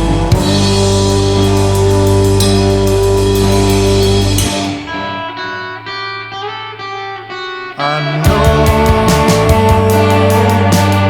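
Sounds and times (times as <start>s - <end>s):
guitar picking single notes: 0.0s - 11.0s
indie rock band with drums: 0.0s - 11.0s.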